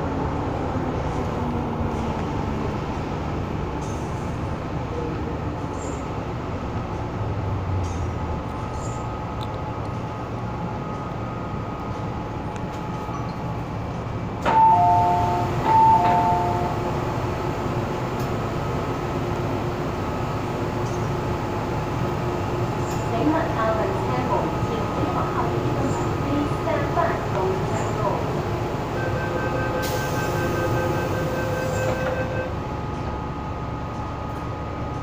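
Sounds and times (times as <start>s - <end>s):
train wheels and motors rumbling: 0.0s - 35.0s.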